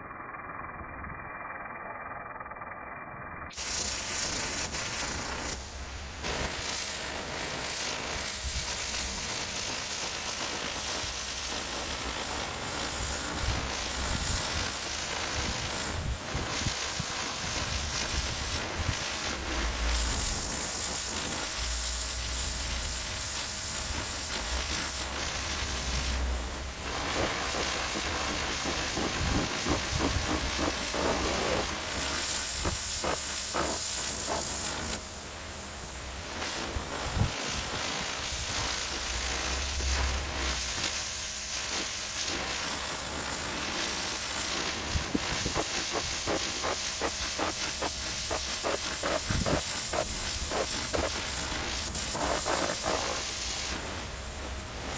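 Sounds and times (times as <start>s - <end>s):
pressure washer spraying: 3.5s - 54.9s.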